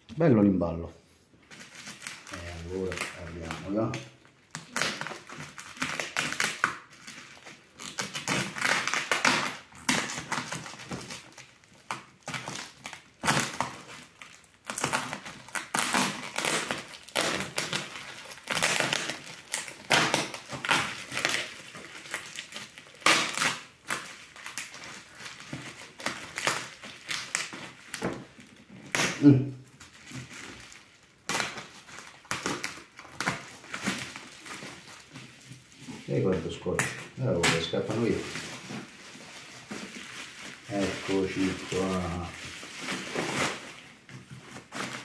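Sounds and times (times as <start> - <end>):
bubble wrap crinkling and crackling: 1.4 - 45.0.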